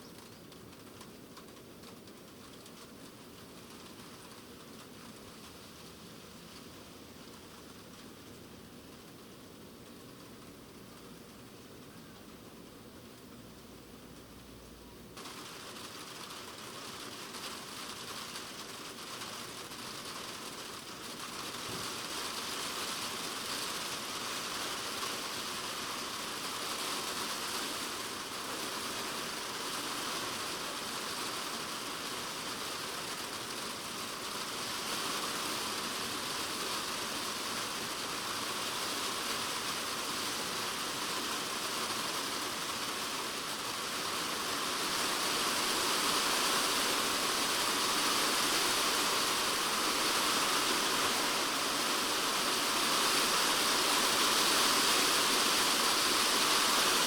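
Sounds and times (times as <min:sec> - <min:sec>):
rain drumming on plastic roof: 0:00.0 - 0:57.0.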